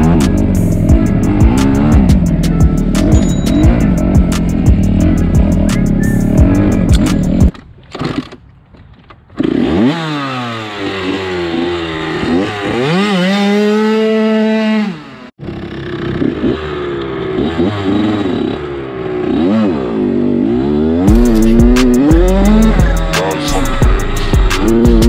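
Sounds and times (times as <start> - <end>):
dirt bike engines revving: 0.0 - 7.5, 9.4 - 25.0.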